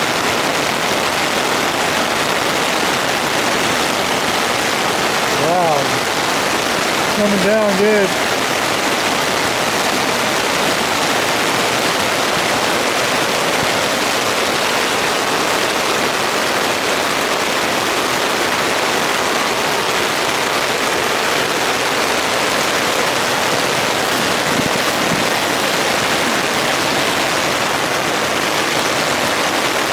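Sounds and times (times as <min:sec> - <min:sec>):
heavy rain on tent fabric: 0:00.0 - 0:29.9.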